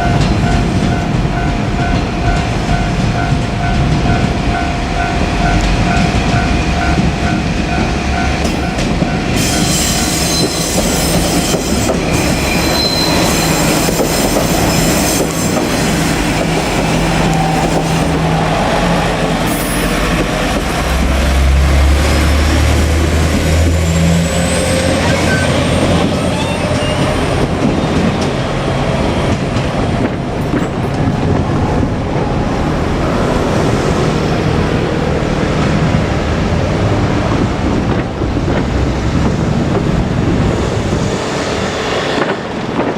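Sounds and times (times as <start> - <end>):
train wheels clattering on rails: 0.0 - 42.9.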